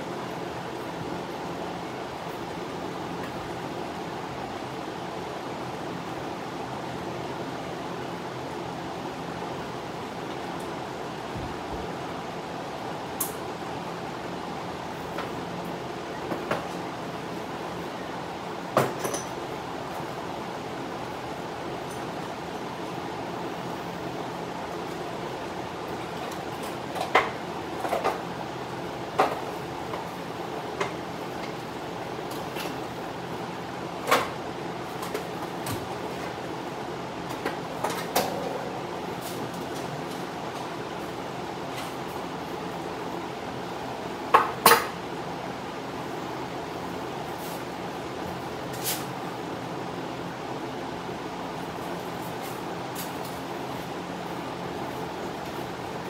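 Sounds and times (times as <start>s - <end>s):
drum fan whirring: 0.0s - 56.0s.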